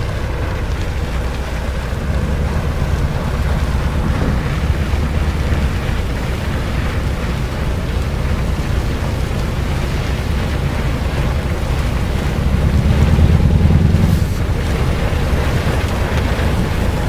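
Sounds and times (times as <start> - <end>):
train rushing through snow: 0.0 - 17.0
wind buffeting microphone: 0.0 - 17.0.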